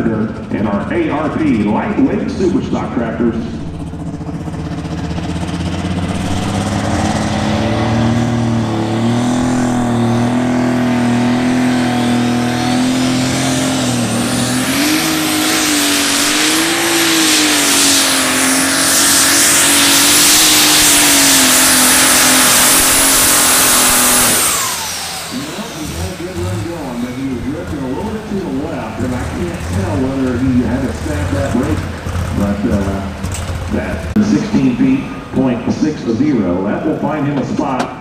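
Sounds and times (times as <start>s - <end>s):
tractor engine running hard: 0.0s - 38.0s.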